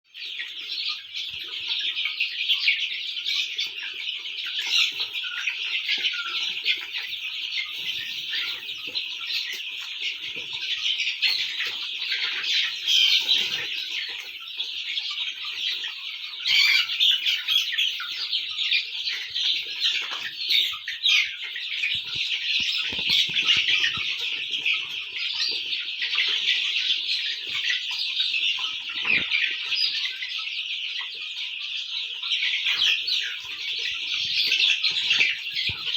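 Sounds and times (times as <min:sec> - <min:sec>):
chicken clucking: 0:00.1 - 0:35.9
chicks peeping and chirping: 0:00.1 - 0:35.9.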